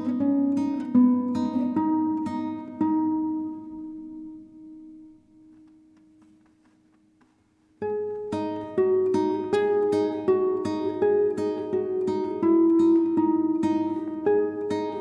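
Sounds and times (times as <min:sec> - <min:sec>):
calm instrumental music: 0:00.0 - 0:15.0.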